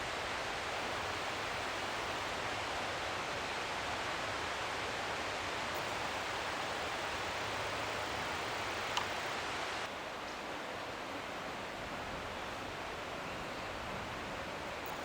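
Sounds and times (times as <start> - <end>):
rushing stream water: 0.0 - 15.0.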